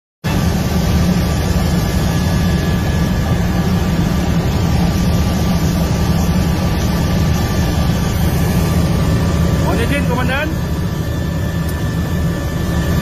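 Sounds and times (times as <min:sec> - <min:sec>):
helicopter engine and rotor rumble: 0:00.2 - 0:13.0.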